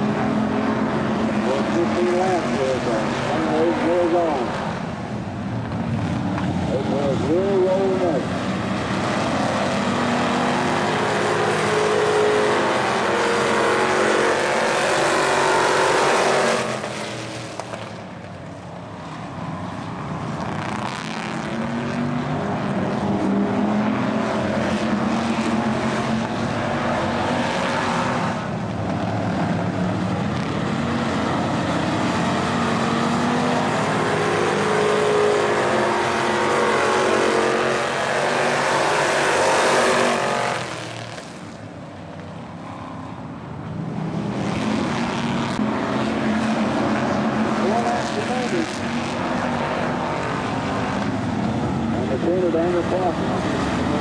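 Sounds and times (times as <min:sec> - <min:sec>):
stock car engines racing: 0:00.0 - 0:54.0.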